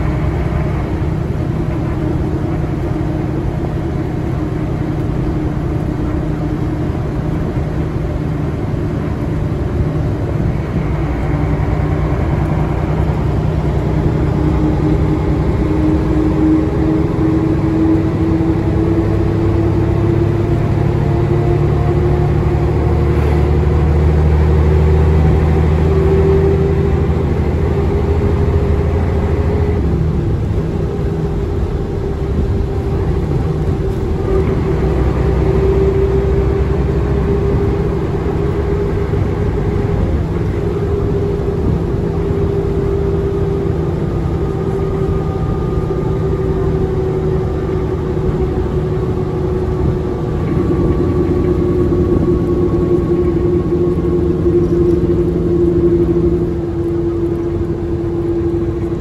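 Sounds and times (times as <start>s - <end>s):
bus diesel engine rumble: 0.0s - 59.0s
road and tyre noise: 0.0s - 59.0s.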